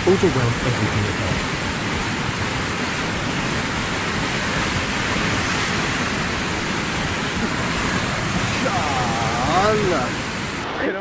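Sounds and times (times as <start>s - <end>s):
landslide rushing: 0.0s - 10.8s.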